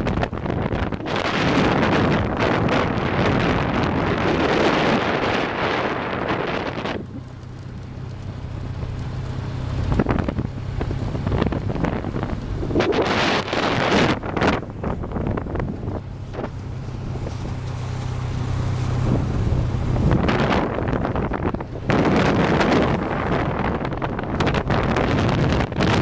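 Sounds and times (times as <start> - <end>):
motorbike engine running: 0.0 - 26.0
wind buffeting microphone: 0.0 - 26.0.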